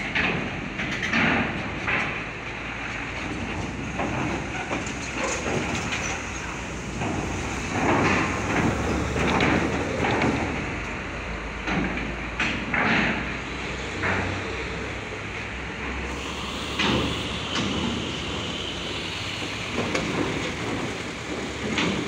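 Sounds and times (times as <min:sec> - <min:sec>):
metallic clanks of wheels on ramp: 0:00.0 - 0:11.0, 0:11.6 - 0:22.0
truck engines rumbling: 0:00.0 - 0:22.0.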